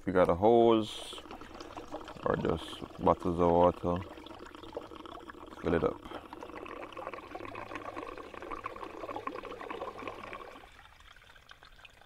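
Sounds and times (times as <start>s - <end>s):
water pouring into a reservoir: 0.0s - 12.0s.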